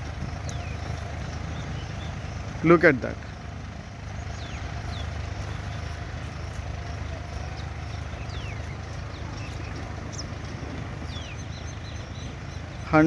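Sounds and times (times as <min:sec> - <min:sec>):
birds whistling and chirping: 0:00.0 - 0:02.6, 0:03.2 - 0:13.0
tractor diesel engine running: 0:00.0 - 0:13.0.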